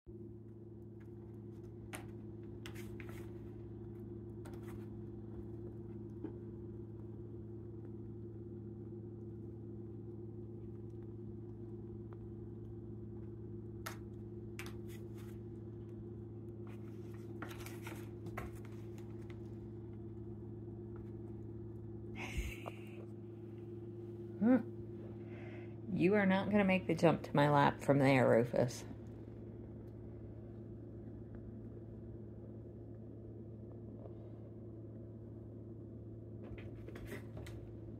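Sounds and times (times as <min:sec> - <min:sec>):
steady low hum: 0:00.1 - 0:37.9.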